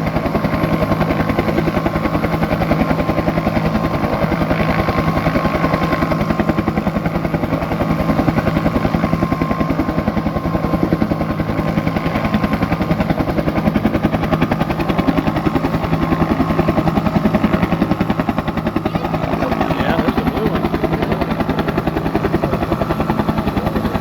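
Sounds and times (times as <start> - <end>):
helicopter rotor chop: 0.0 - 24.0.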